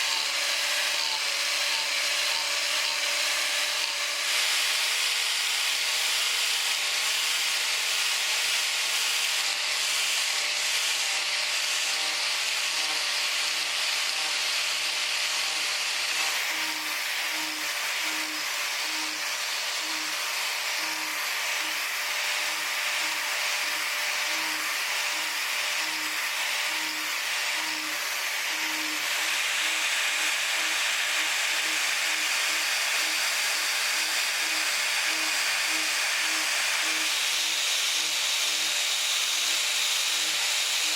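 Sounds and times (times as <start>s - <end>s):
carving tool grinding wood: 0.0s - 40.9s.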